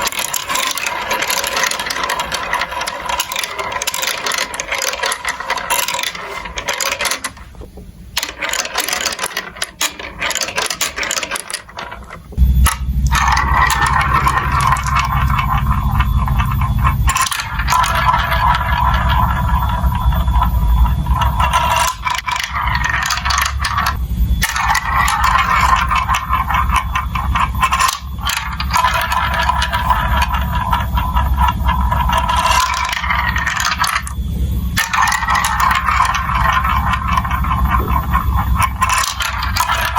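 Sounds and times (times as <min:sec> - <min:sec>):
marbles rolling through marble run: 0:00.0 - 0:39.9.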